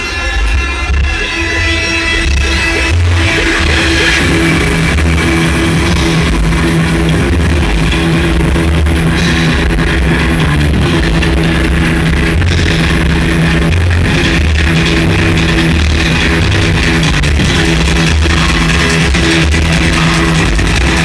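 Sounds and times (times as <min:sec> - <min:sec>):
deep bass line: 0:00.0 - 0:21.0
loud music with guitar and drums: 0:00.0 - 0:21.0.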